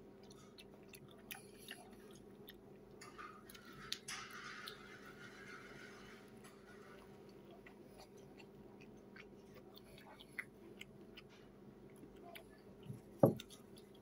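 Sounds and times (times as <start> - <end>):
faint chewing: 0.0 - 14.0
low room hum: 0.0 - 14.0.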